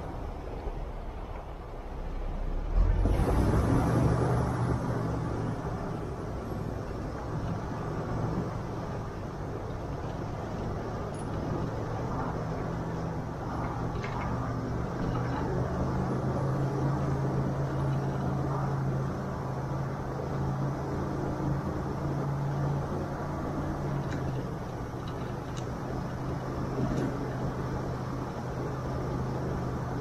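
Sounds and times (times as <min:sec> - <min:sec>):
off-road vehicle engine droning: 0:00.0 - 0:30.0
tyres rumbling over rocky track: 0:00.0 - 0:30.0.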